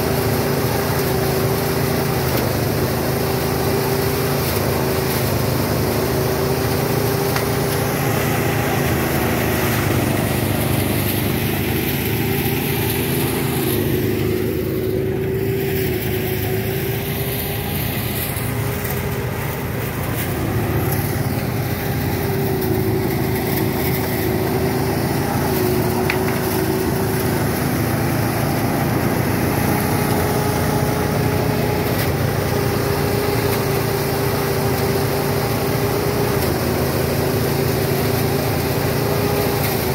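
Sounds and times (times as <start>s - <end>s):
threshing machine engine hum: 0.0s - 39.9s.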